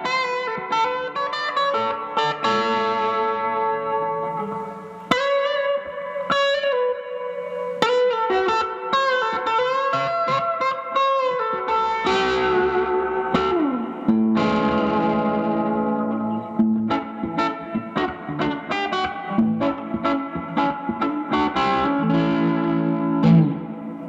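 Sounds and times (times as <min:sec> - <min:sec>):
electric guitar lead lines: 0:00.0 - 0:24.0.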